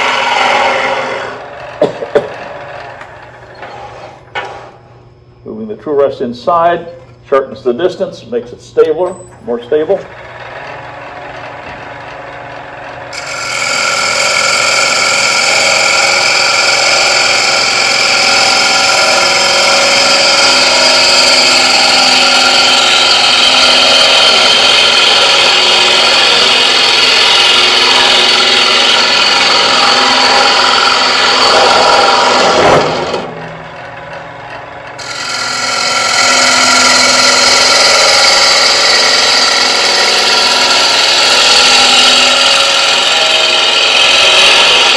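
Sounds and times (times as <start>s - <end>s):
lathe hum: 0.0s - 5.4s, 9.5s - 44.9s.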